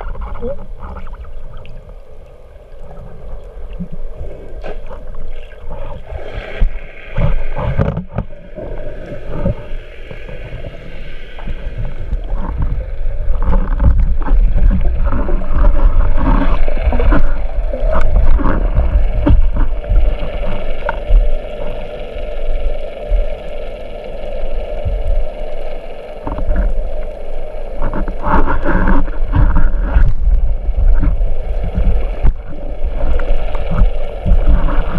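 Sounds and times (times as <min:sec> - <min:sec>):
muffled underwater rush and bubbling: 0:00.0 - 0:34.9.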